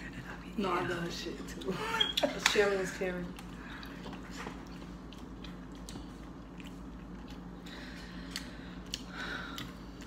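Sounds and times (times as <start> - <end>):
low steady hum: 0.0 - 10.0
close-up chewing with mouth smacks: 1.4 - 10.0.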